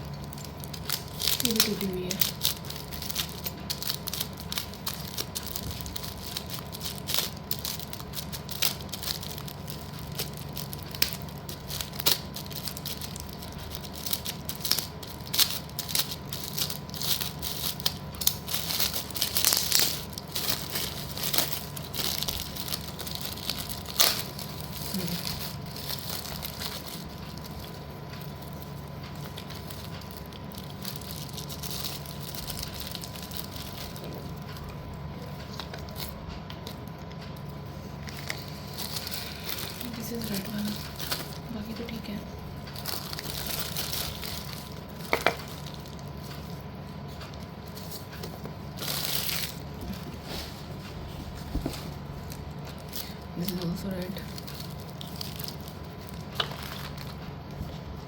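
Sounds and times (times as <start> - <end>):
packaging crinkling: 0.0 - 58.0.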